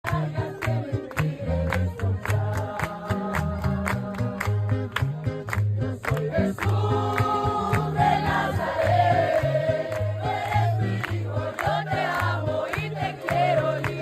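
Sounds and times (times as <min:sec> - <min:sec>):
bass line: 0:00.0 - 0:14.0
percussion beat: 0:00.0 - 0:14.0
group singing worship chorus: 0:00.1 - 0:04.6, 0:05.8 - 0:14.0.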